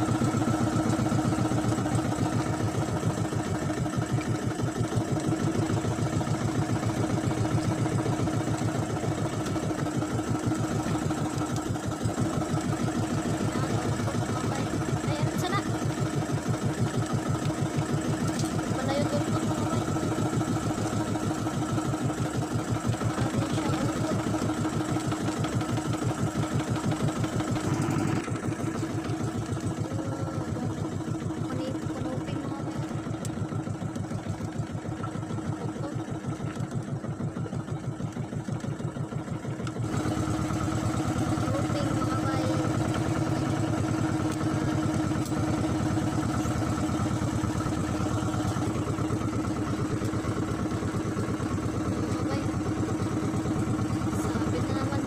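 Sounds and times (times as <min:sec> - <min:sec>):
boat engine putter: 0:00.0 - 0:55.0.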